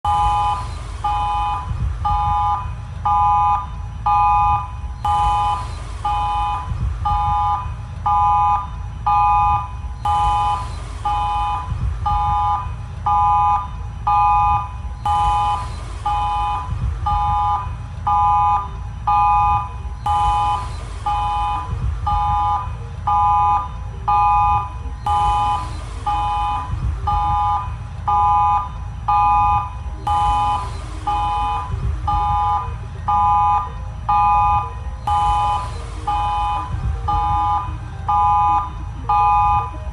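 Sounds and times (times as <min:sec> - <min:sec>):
harsh beeping alert tone: 0:00.0 - 0:39.9
steady low rumble: 0:00.0 - 0:39.9.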